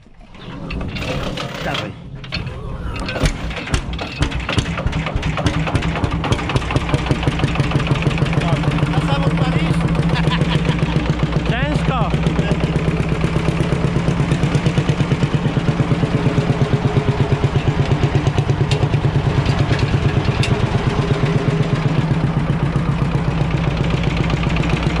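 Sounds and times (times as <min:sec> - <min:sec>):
tractor engine running slowly: 0:00.0 - 0:25.0.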